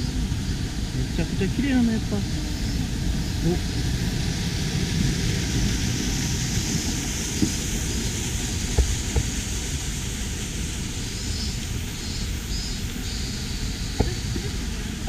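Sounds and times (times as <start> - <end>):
steady rushing hiss: 0.0 - 15.0
wind rumbling on microphone: 0.0 - 15.0.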